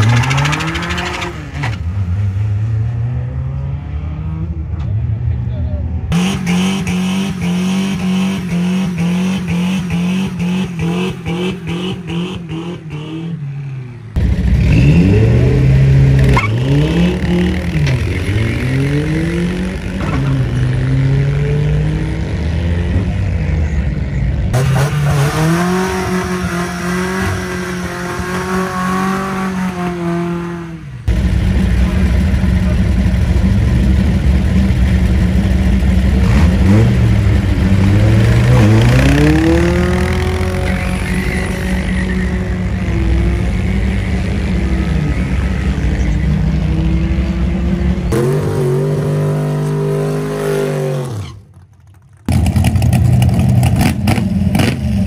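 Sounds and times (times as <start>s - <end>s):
truck engines revving hard: 0.0s - 51.6s, 52.2s - 55.0s.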